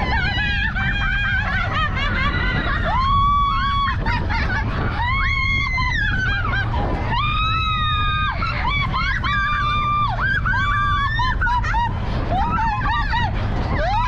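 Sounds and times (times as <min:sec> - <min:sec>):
ride vehicle rumbling: 0:00.0 - 0:14.0
riders screaming and whooping: 0:00.0 - 0:14.0.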